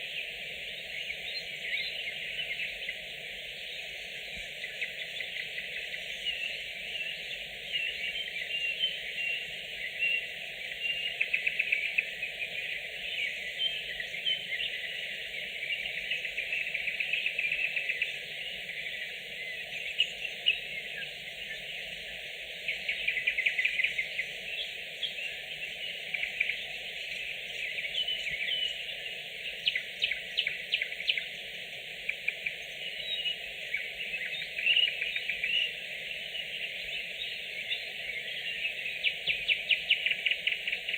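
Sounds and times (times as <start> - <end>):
nightingale singing: 0.0 - 40.9.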